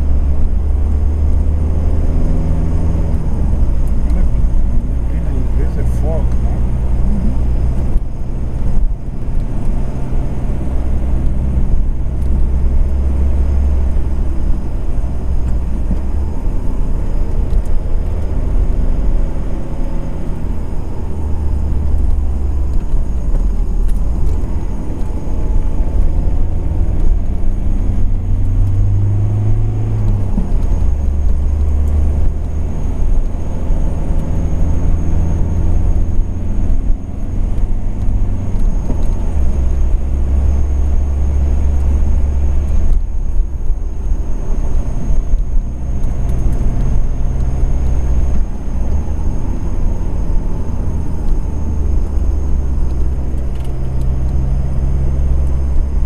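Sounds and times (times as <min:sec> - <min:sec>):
car engine revving: 0:00.0 - 0:56.0
road rumble: 0:00.0 - 0:56.0.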